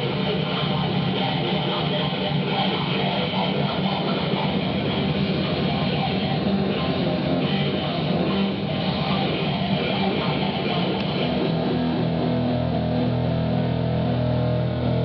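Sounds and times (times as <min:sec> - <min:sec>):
distorted harsh noise buzz: 0:00.0 - 0:15.0.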